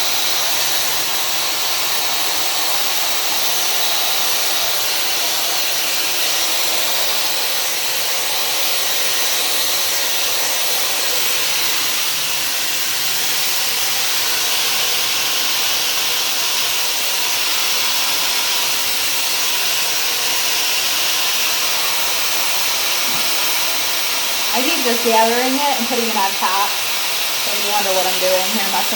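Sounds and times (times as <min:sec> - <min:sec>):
hair dryer hissing: 0:00.0 - 0:28.9.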